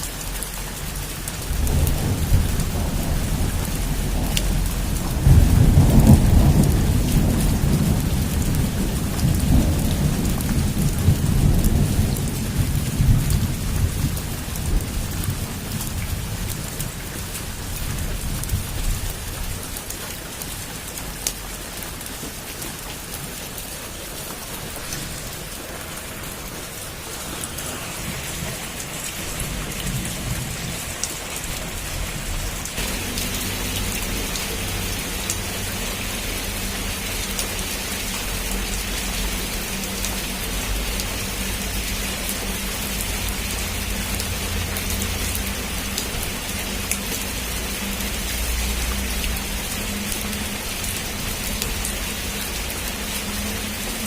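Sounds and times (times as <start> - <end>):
heavy rain falling: 0.0 - 54.0
thunder rumbling: 1.2 - 19.8, 23.2 - 52.2.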